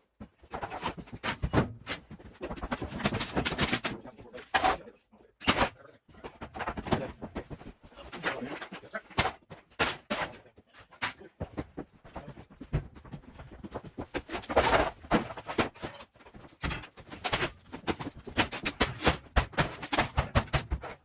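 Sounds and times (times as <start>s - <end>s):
objects knocking and thudding: 0.1s - 4.8s, 5.4s - 21.0s.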